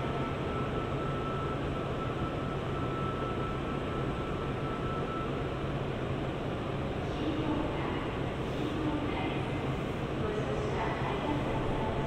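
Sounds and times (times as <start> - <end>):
train mechanical hum: 0.0 - 12.0.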